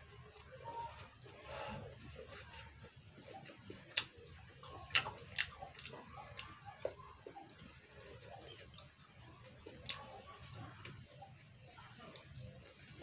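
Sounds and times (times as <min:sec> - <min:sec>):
mouth clicks and smacks: 0:00.1 - 0:11.0
person chewing: 0:00.1 - 0:11.0.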